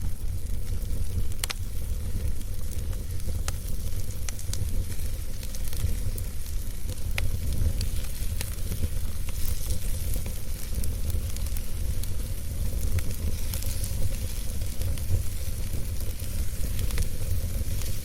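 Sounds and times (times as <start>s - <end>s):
campfire crackling and popping: 0.0s - 18.0s
low fire rumble: 0.0s - 18.0s.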